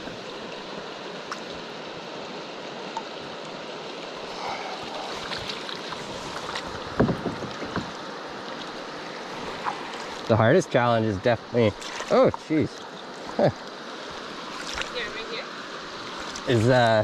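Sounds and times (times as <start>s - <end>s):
creek water trickling: 0.0s - 17.0s.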